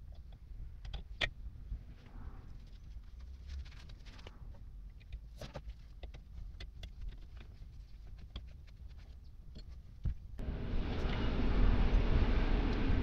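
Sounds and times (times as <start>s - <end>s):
low steady rumble: 0.0s - 6.6s, 8.9s - 13.0s.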